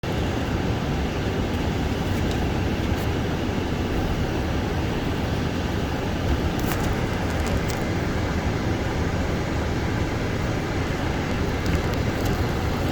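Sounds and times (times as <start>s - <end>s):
tyre and road noise inside car: 0.0s - 12.9s.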